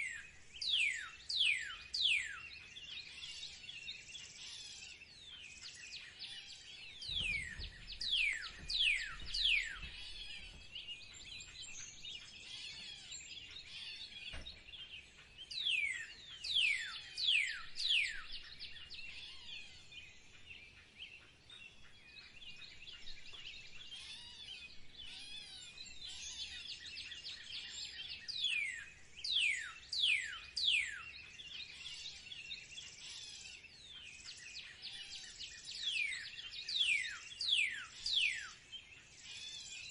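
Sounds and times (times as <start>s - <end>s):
many birds chirping: 0.0s - 39.9s.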